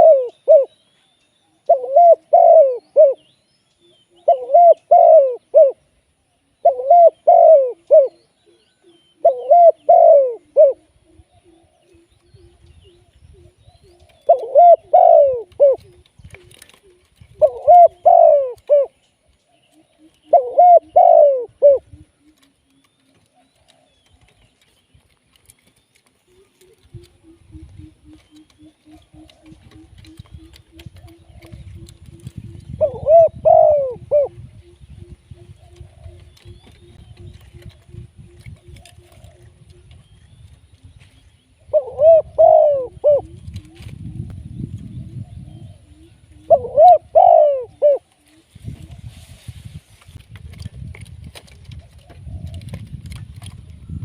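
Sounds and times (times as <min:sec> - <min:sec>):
dove cooing: 0:00.0 - 0:00.8, 0:01.6 - 0:06.0, 0:06.6 - 0:24.6, 0:26.2 - 0:49.8, 0:50.6 - 0:54.0.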